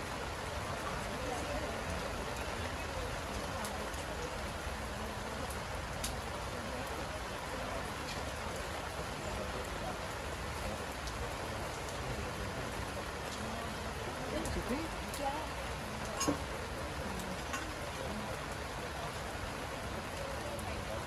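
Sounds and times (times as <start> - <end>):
steady rain hiss: 0.0 - 21.0
raindrop ticks: 0.1 - 21.0.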